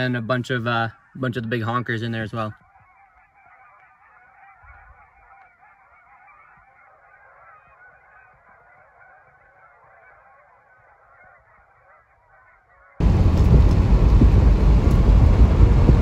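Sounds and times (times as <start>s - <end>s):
geese honking and cackling: 0.0s - 13.0s.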